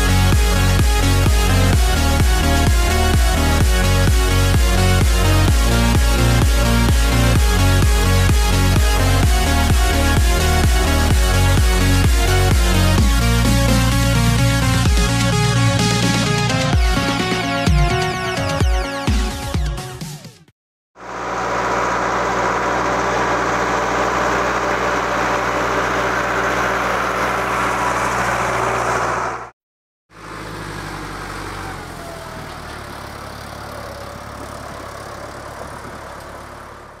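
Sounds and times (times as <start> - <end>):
tractor diesel engine running: 0.0 - 16.7, 21.0 - 37.0.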